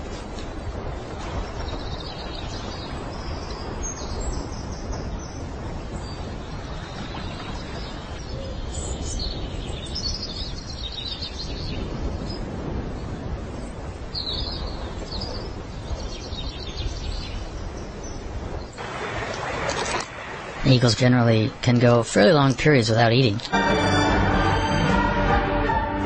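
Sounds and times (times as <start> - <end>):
steady rushing noise: 0.0 - 26.0
birds chirping: 0.4 - 24.8.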